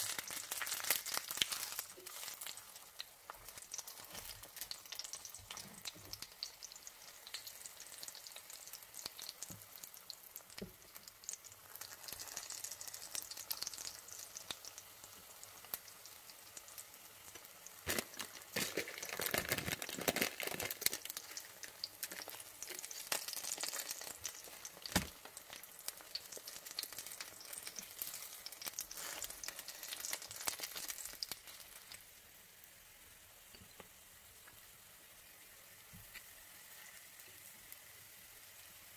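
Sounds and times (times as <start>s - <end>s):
frying crackling sizzle: 0.0s - 38.9s.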